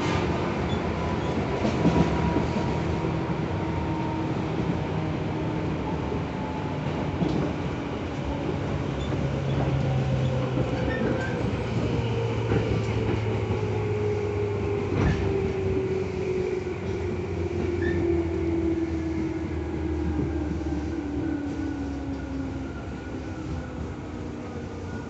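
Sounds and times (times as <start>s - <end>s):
wheel and rail rumble: 0.0s - 25.0s.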